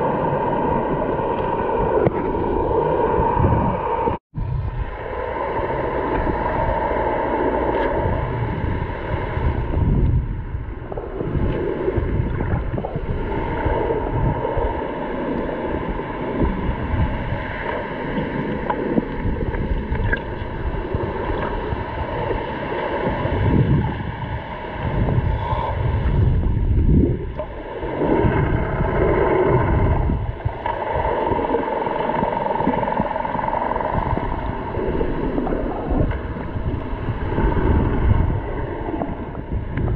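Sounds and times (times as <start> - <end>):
steady hum: 0.0 - 39.9
underwater rushing and bubbling: 0.0 - 39.9.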